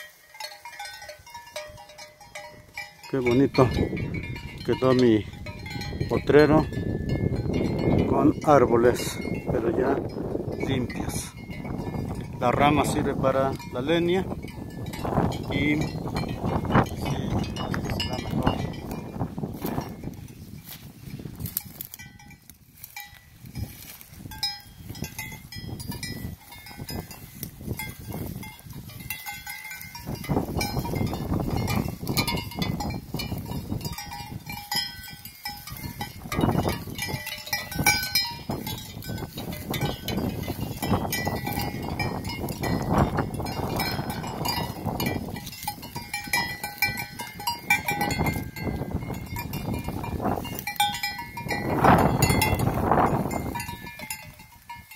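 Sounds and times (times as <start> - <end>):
sheep bells clinking: 0.0 - 54.9.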